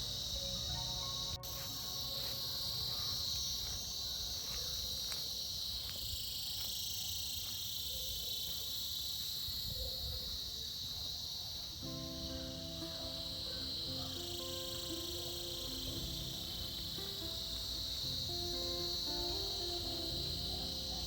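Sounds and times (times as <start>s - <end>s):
cicadas buzzing: 0.0s - 21.0s.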